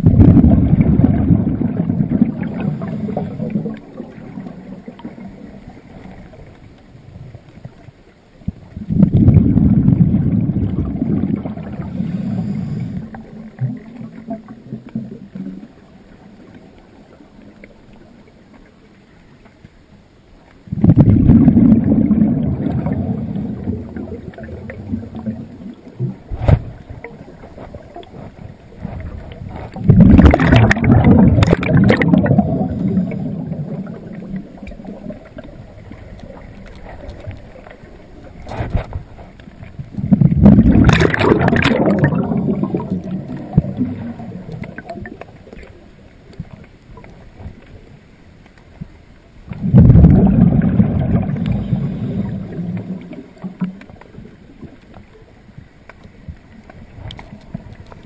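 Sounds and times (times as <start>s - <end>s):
underwater regulator bubbles: 0.0s - 6.6s, 7.2s - 18.1s, 20.7s - 47.8s, 49.5s - 58.0s.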